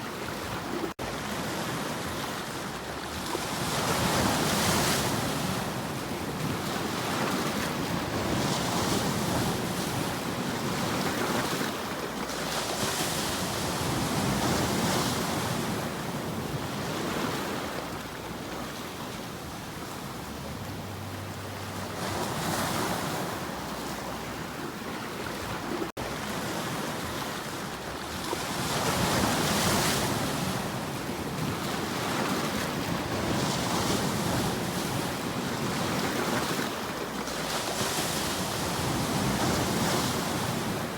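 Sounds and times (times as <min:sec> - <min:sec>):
sea waves washing in: 0:00.0 - 0:40.9.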